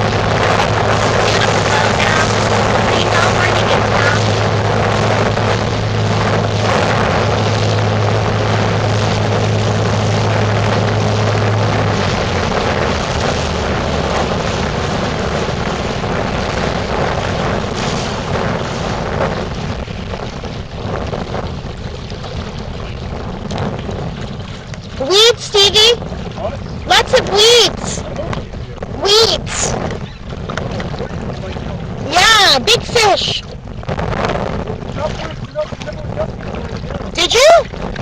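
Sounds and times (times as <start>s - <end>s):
motorboat engine running: 0.0s - 38.0s
rush of wind and water: 0.0s - 38.0s.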